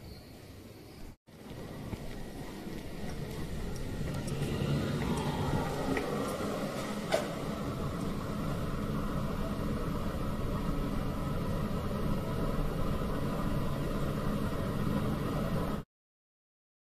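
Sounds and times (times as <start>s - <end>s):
low mechanical hum and rumble: 0.0s - 15.8s.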